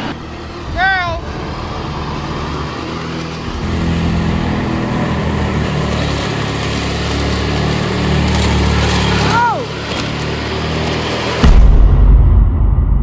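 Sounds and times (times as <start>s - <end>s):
engine running steadily: 0.0s - 12.0s
rushing noise: 0.0s - 13.0s.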